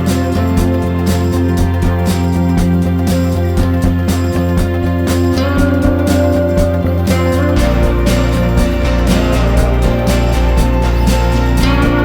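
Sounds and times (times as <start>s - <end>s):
music with steady beat: 0.0s - 12.0s.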